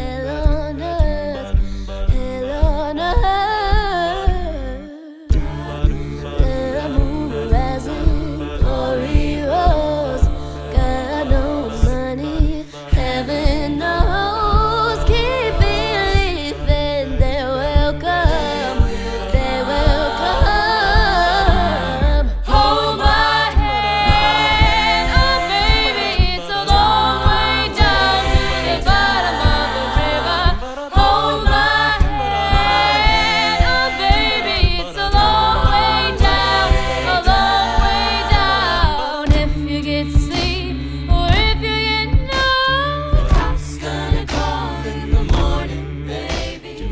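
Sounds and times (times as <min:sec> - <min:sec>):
a cappella choir singing: 0:00.0 - 0:46.9
sung bass line: 0:00.0 - 0:46.9
vocal percussion beat: 0:00.0 - 0:46.9.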